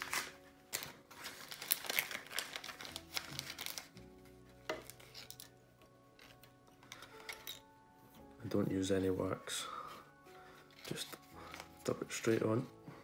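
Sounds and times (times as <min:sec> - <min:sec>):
crinkling and rustling: 0:00.0 - 0:07.8, 0:10.0 - 0:13.0
soft background music: 0:00.0 - 0:13.0.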